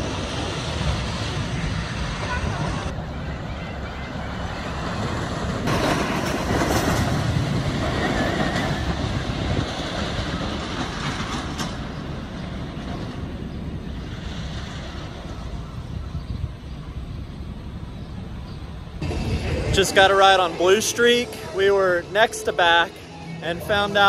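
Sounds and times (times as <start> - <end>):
roller coaster rumbling and clattering: 0.0 - 24.0.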